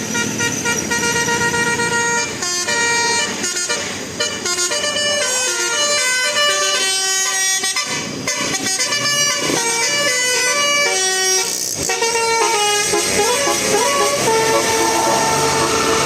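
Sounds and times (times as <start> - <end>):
bus horn playing a melody: 0.0 - 16.0.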